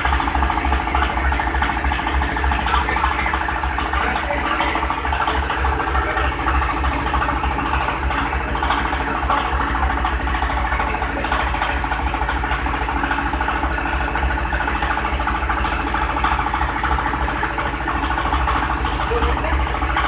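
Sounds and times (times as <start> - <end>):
grinding machine motor humming: 0.0 - 20.0.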